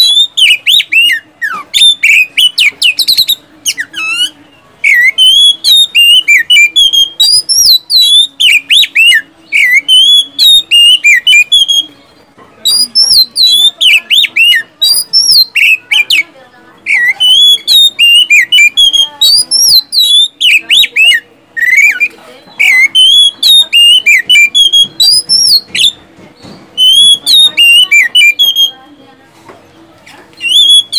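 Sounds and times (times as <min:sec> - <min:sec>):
magpie-robin singing: 0:00.0 - 0:29.1, 0:30.3 - 0:30.9.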